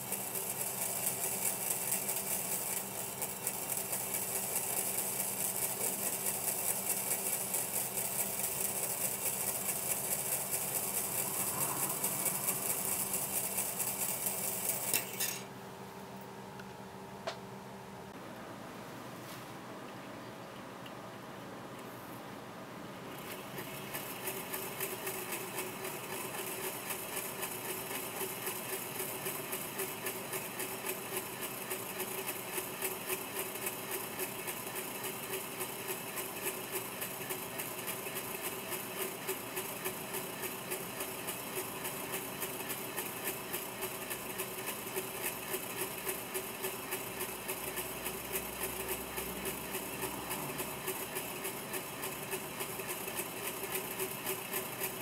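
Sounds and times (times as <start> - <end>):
spinning wire rattling: 0.0 - 15.5, 23.1 - 55.0.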